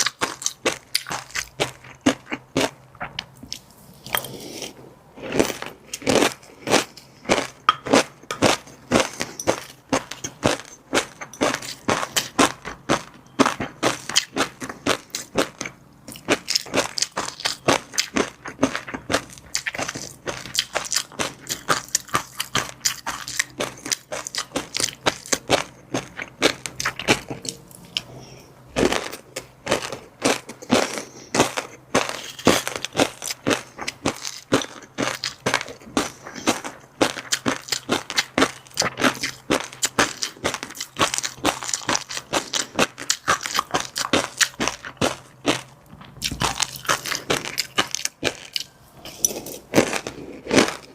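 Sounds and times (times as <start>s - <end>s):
crunchy food being chewed: 0.0s - 50.9s.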